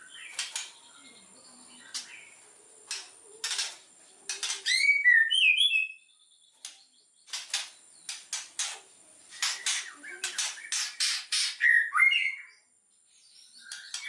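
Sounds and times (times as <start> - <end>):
bird singing rasping and whistling: 0.0 - 14.0.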